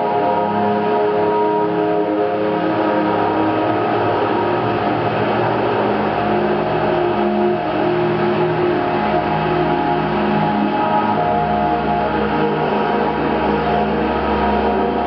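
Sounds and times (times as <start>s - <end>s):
synthesizer drone: 0.0s - 15.0s.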